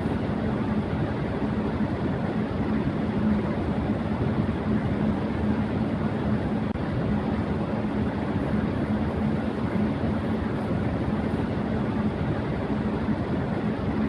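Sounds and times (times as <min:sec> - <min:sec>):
fan air rushing: 0:00.0 - 0:14.0
low motor hum: 0:00.0 - 0:14.0.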